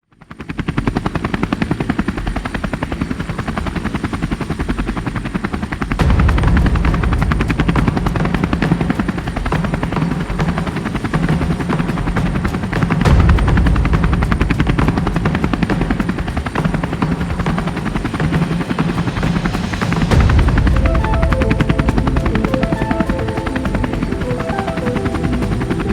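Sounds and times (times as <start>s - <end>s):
helicopter rotor blades chopping: 0.2s - 25.9s.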